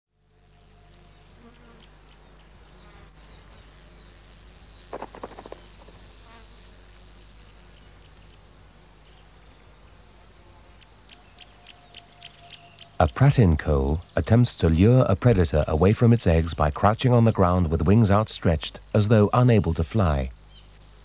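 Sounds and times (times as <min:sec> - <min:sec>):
high-pitched insect trill: 0:00.3 - 0:21.0.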